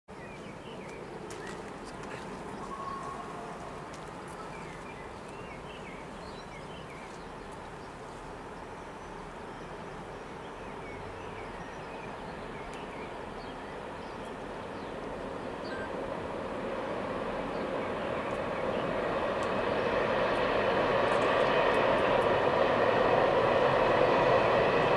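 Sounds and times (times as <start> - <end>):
birds chirping: 0.1 - 22.4
distant freight train rumble: 0.2 - 24.9.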